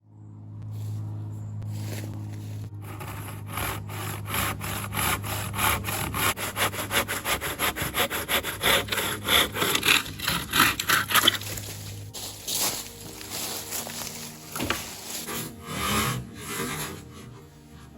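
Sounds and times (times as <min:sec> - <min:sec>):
handsaw cutting tree trunk: 0:01.8 - 0:17.9.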